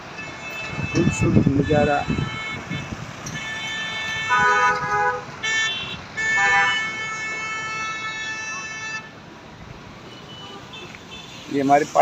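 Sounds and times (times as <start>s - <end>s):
vehicle horns honking: 0.2s - 9.1s, 10.1s - 11.6s.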